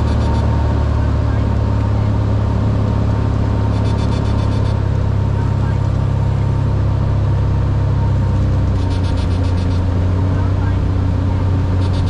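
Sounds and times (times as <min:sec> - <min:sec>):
light aircraft engine droning: 0:00.0 - 0:12.0.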